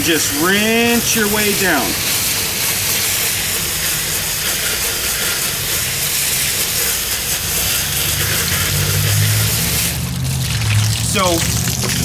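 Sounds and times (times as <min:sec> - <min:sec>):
spray striking metal fins: 0:00.0 - 0:12.0
water spraying from a hose: 0:00.0 - 0:12.0.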